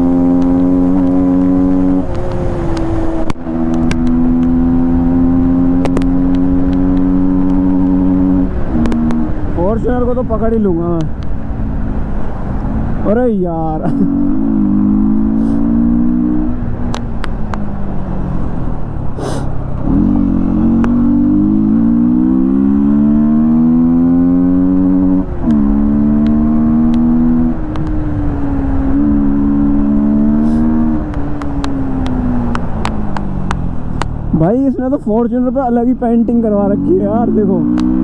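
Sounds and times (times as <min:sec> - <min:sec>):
motorcycle engine revving: 0:00.0 - 0:13.1, 0:13.7 - 0:34.6, 0:36.3 - 0:38.0.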